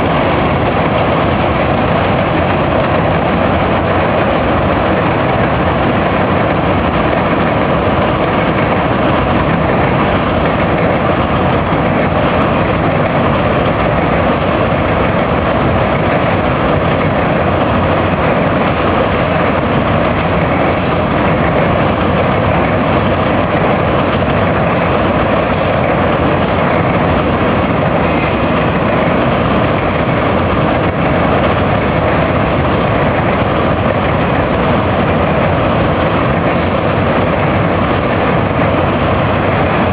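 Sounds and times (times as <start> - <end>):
heavy engine rumbling: 0.0 - 39.9.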